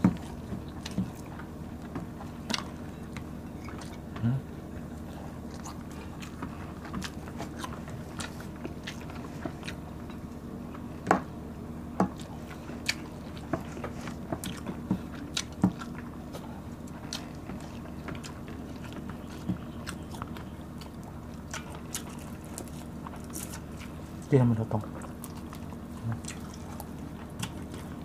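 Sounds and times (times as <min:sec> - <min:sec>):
chewing with wet mouth clicks: 0:00.0 - 0:04.2, 0:04.8 - 0:10.8, 0:12.0 - 0:28.0
steady low hum: 0:00.0 - 0:28.0.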